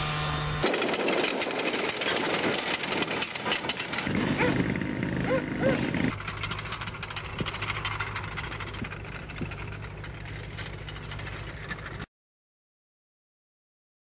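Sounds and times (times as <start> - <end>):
motor engine running: 0.0 - 12.1.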